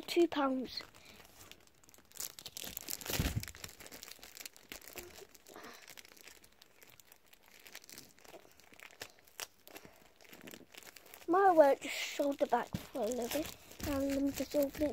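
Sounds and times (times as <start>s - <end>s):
plastic packaging crinkling: 0.4s - 14.9s.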